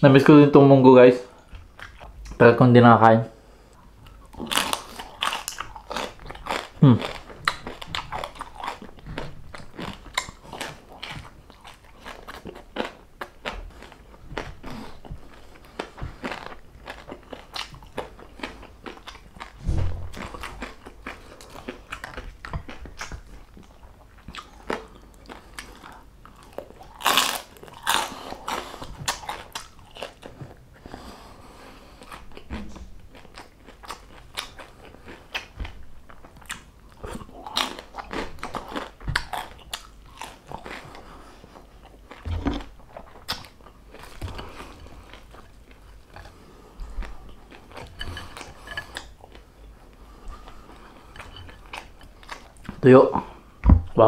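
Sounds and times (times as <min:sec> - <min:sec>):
chewing crispy pork: 0:01.2 - 0:53.6.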